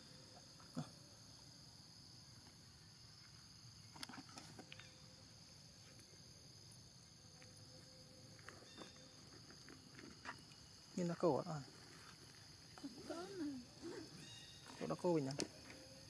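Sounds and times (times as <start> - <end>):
faint insect chorus: 0.0 - 16.0.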